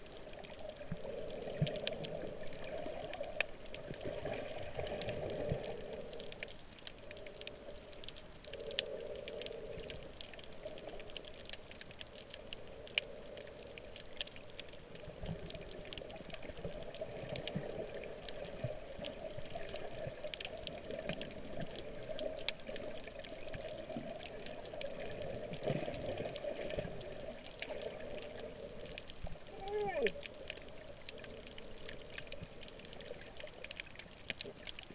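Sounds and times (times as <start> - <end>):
faint crackles and clicks: 0.0 - 34.9
muffled rush of water: 0.0 - 34.9.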